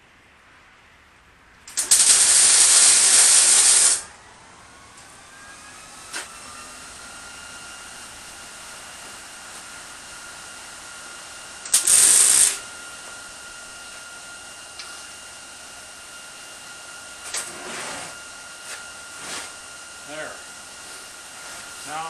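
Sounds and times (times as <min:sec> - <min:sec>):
welder hissing: 0:01.7 - 0:04.1, 0:04.8 - 0:22.0.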